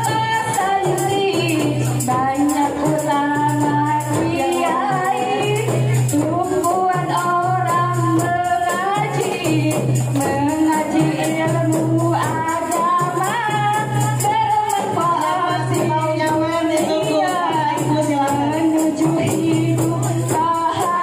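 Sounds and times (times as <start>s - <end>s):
music: 0.0s - 21.0s
tambourines shaken and struck: 0.0s - 21.0s
woman singing into a microphone: 0.0s - 21.0s.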